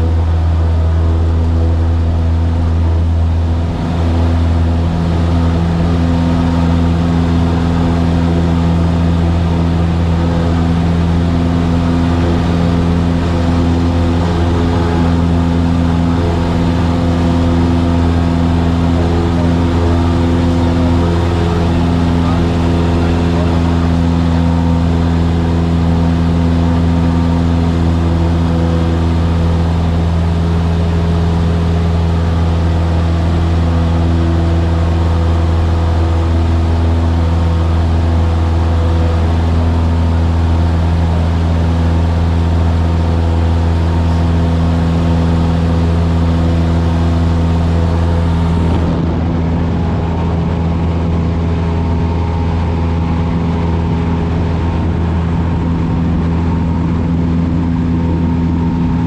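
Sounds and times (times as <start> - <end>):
propeller plane engine droning: 0.0 - 59.0.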